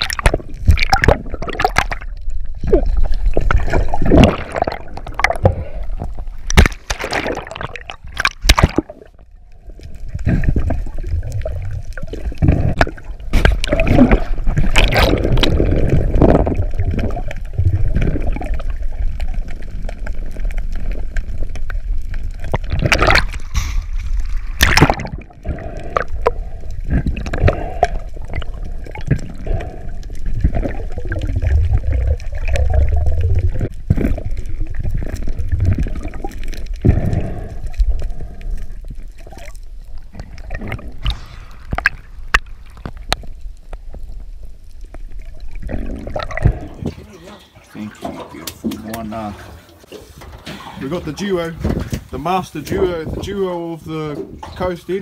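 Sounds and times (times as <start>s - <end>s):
water sloshing underwater: 0.0s - 55.0s.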